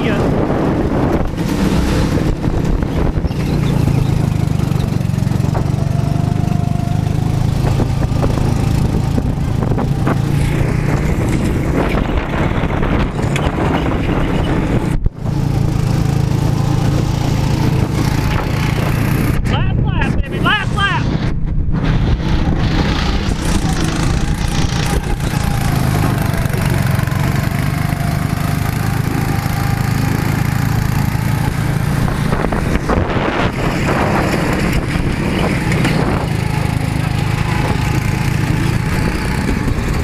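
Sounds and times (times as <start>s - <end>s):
go-kart engine running: 0.0s - 20.9s, 21.8s - 40.0s
wind rushing: 0.0s - 40.0s.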